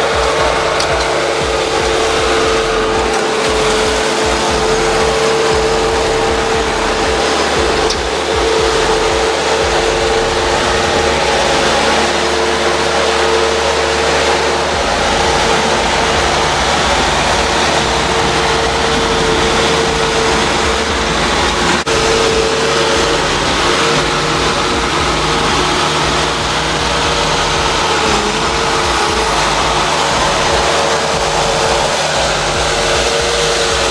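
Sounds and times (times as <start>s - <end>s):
constant whine: 0.0s - 33.9s
diesel engine running: 0.0s - 33.9s.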